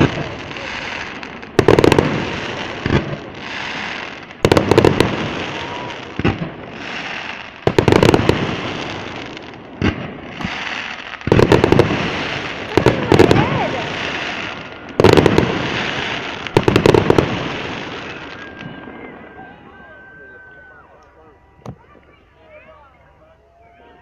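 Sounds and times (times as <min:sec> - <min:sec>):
fireworks bursting with bangs: 0:00.0 - 0:20.2.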